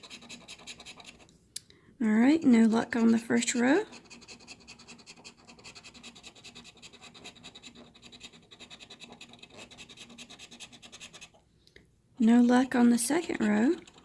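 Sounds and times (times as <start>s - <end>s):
scratching lottery ticket coating: 0.0s - 1.3s, 2.2s - 11.4s, 12.2s - 14.0s.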